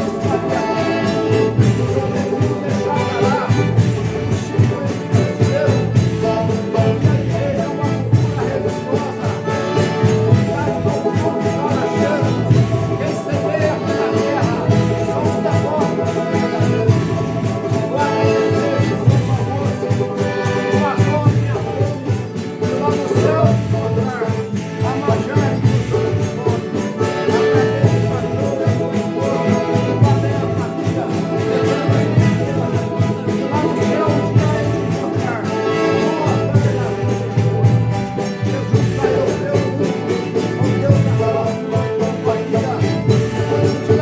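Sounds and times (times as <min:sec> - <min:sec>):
tambourine jingles: 0:00.0 - 0:44.0
voices singing over instruments: 0:00.0 - 0:44.0.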